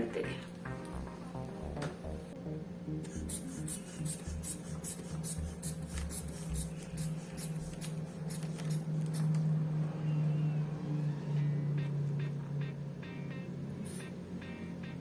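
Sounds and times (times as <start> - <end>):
faint background music: 0.0 - 7.3, 9.5 - 15.0.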